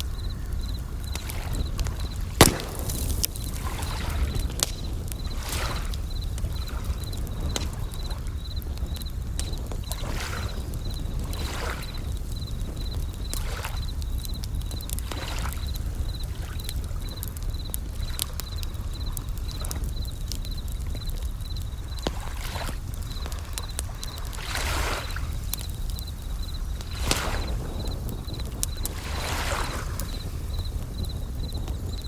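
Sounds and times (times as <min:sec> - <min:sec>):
campfire crackling and popping: 0:00.0 - 0:32.0
cricket chirping: 0:00.0 - 0:32.0.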